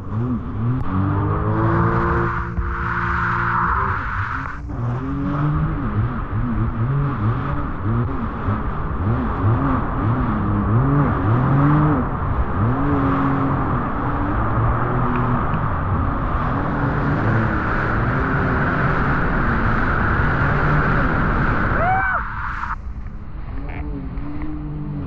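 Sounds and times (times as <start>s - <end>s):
jet ski engine revving: 0.0s - 22.7s, 23.6s - 25.0s
rising whine: 0.0s - 25.0s.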